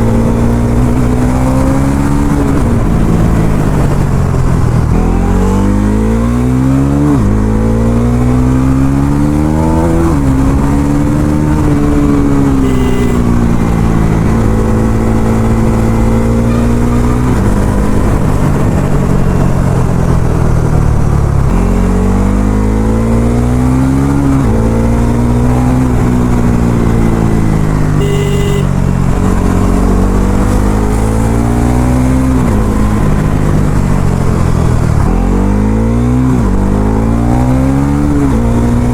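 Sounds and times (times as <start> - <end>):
motorcycle engine accelerating hard: 0.0 - 38.9.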